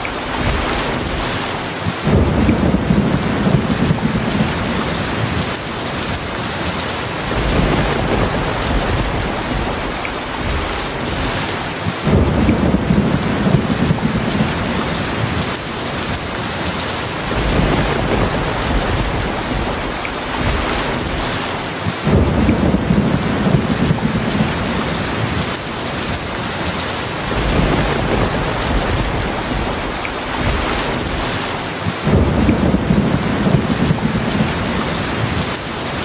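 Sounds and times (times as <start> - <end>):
low rolling thunder: 0.0 - 6.1, 7.1 - 16.1, 17.2 - 26.1, 27.1 - 35.6
heavy rain falling: 0.0 - 36.0.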